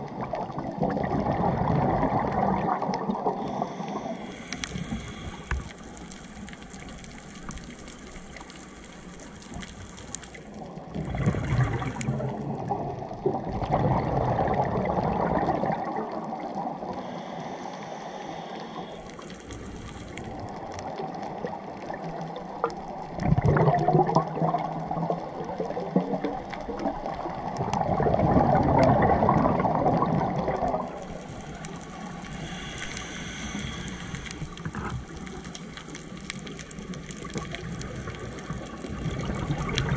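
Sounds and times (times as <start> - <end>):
underwater air bubbling: 0.0 - 39.9.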